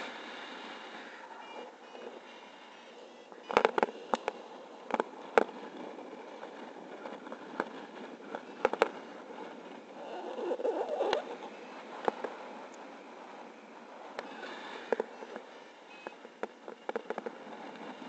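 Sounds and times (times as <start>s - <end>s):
wind rushing over microphone: 3.3s - 18.0s.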